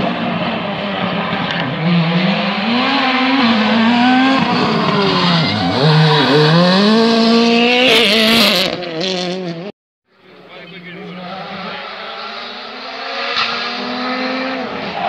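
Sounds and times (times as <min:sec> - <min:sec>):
rally car engine at full throttle: 0:00.0 - 0:09.7, 0:10.3 - 0:15.0.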